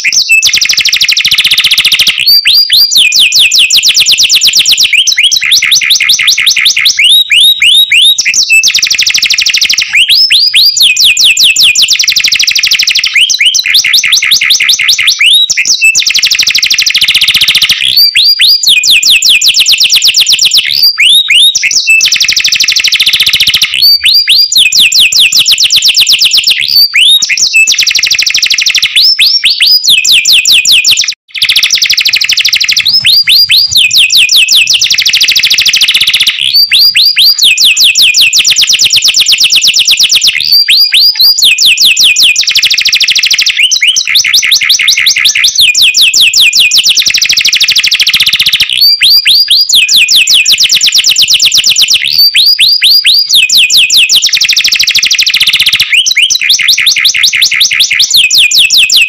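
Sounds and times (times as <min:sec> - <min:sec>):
canary singing rapid trills: 0:00.0 - 0:59.0.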